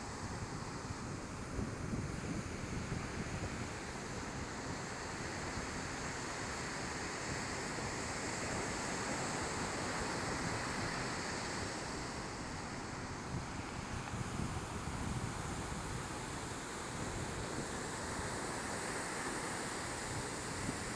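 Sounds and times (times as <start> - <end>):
ocean surf breaking on beach: 0.0 - 20.9.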